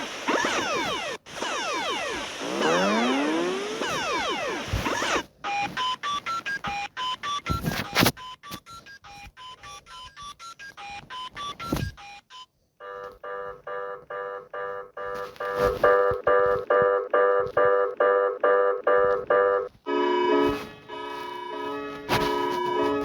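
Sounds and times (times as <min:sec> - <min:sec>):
harsh beeping alarm tone: 0:00.3 - 0:23.0.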